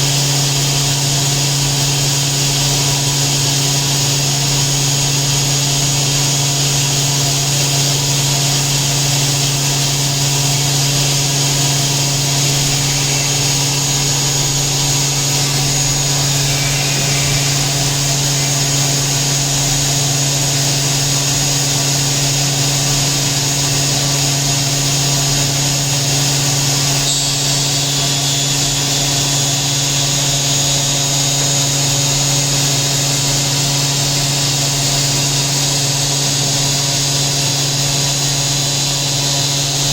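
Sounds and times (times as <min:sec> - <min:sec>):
machining center humming with high whine: 0:00.0 - 0:39.9.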